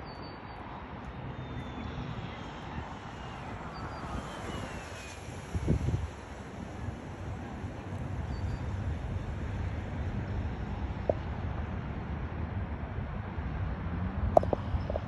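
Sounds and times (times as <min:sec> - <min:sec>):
wind rumble on microphone: 0:01.8 - 0:15.0.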